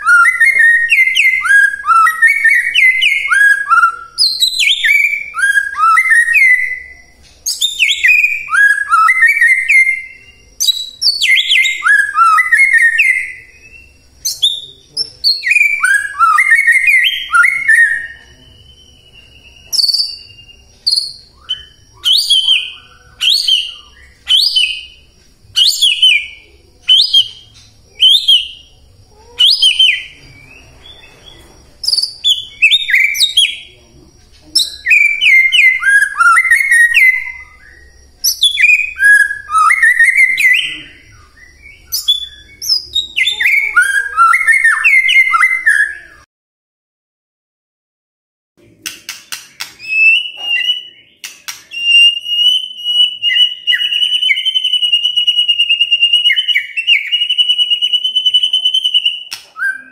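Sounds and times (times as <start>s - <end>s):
songbird whistling: 0.0s - 46.3s, 49.2s - 59.9s.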